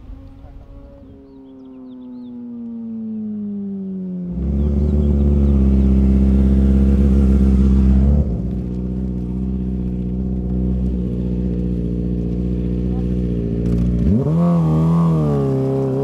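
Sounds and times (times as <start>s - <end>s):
motorcycle engine running: 1.1s - 16.0s.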